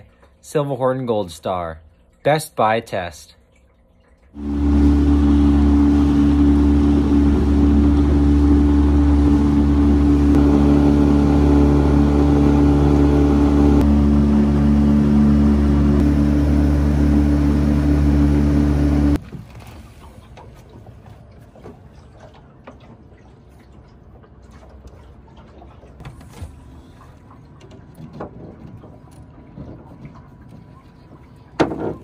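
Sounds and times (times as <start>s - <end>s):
boat motor running: 4.3s - 32.0s.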